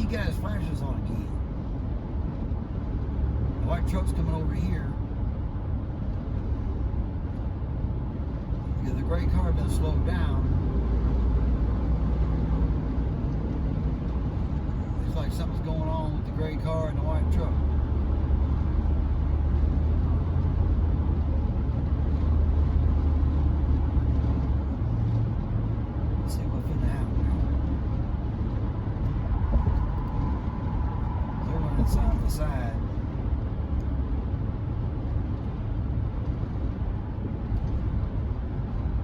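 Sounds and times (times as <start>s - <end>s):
road and engine drone in cab: 0.0s - 39.0s.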